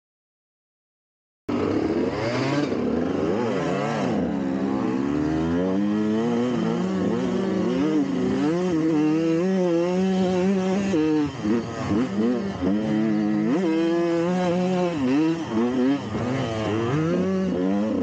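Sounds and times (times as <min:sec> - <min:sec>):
dirt bike engine revving: 0:01.5 - 0:18.0.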